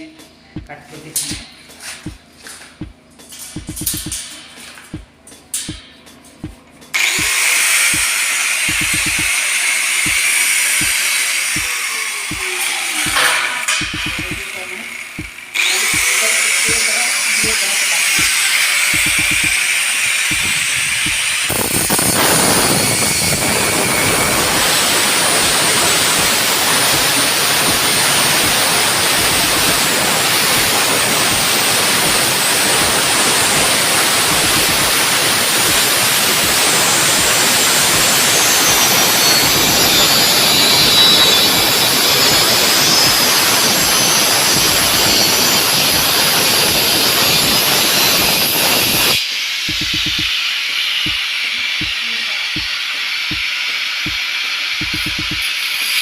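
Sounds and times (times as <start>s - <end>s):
angle grinder cutting steel: 7.0s - 56.0s.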